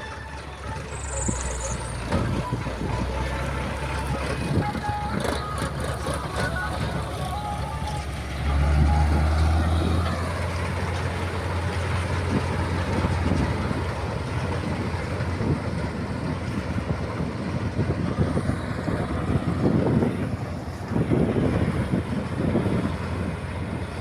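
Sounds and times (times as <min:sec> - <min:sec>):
combine harvester engine hum: 0:00.0 - 0:24.0.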